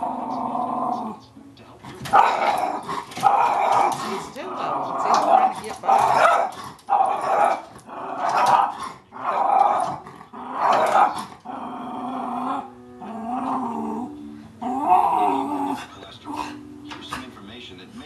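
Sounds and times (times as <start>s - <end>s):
dog growling and barking: 0.0s - 1.2s, 1.8s - 17.2s.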